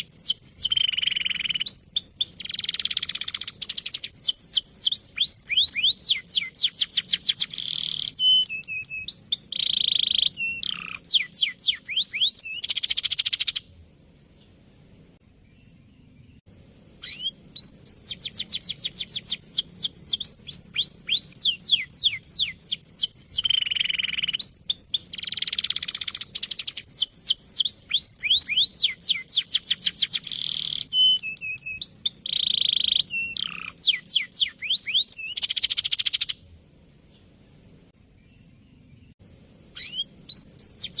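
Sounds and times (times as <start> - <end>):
canary singing trills: 0.0 - 37.3, 38.2 - 41.0.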